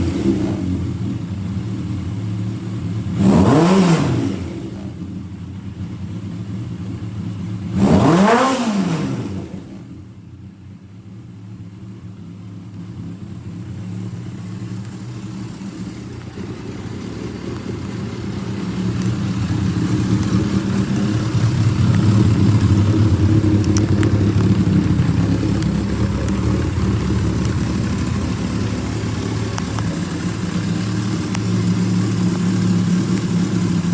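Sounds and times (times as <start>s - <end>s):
motorcycle engine idling: 0.0s - 3.3s, 4.7s - 7.8s, 9.7s - 33.9s.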